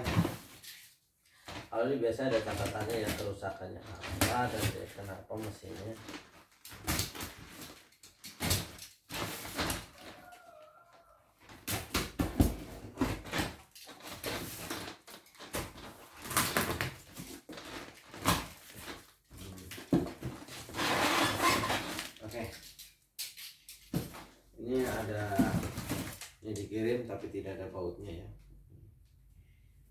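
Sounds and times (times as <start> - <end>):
plastic wrap rustling: 0.0 - 10.6, 11.4 - 22.9, 23.8 - 26.7.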